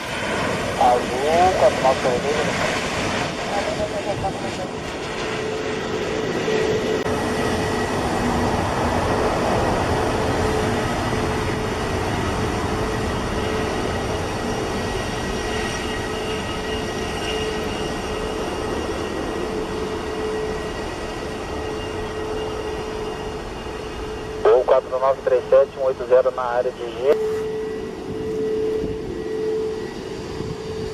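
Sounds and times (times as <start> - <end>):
jet engines turbine whine: 0.0 - 30.9.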